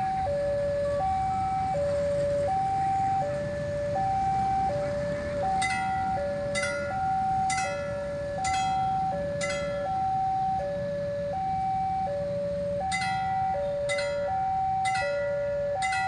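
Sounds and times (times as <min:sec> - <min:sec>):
low traffic rumble: 0:00.0 - 0:16.0
two-tone electronic alarm: 0:00.0 - 0:16.0.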